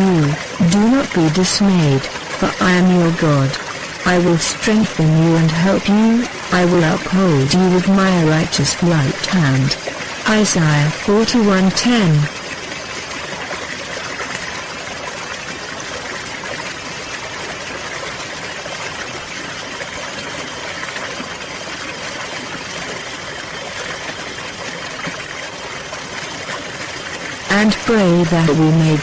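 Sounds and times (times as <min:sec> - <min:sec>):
running water trickling: 0:00.0 - 0:29.0.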